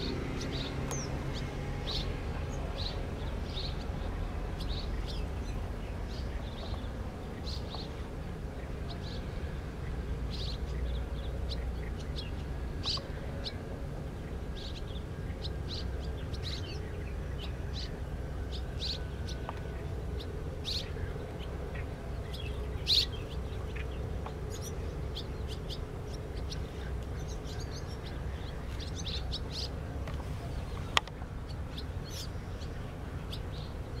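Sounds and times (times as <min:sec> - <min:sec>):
low background rumble: 0:00.0 - 0:34.0
swallows chirping: 0:00.0 - 0:34.0.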